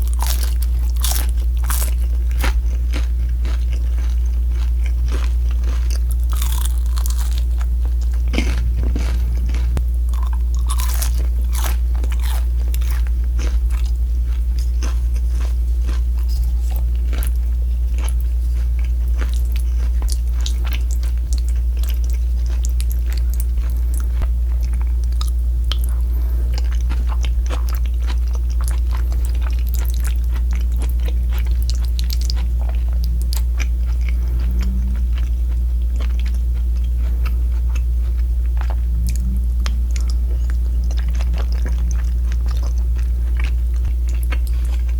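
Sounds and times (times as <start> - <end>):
crunching and chewing crispy food: 0.0 - 44.9
steady low hum: 0.0 - 44.9.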